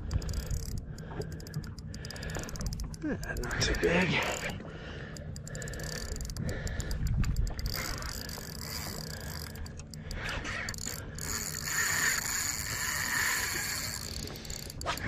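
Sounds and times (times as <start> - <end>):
fishing reel clicking: 0.0 - 15.0
steady low rumble: 0.0 - 15.0.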